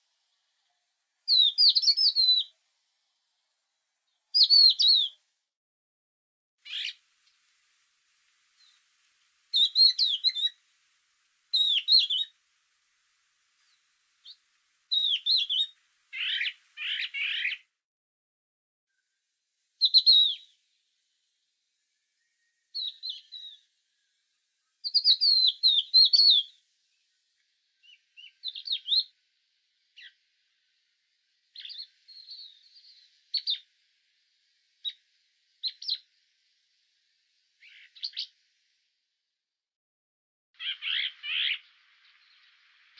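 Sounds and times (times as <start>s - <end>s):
songbirds chirping and warbling: 0.0s - 2.6s, 3.3s - 5.2s, 6.6s - 17.8s, 19.8s - 20.7s, 21.8s - 38.9s, 40.6s - 42.9s.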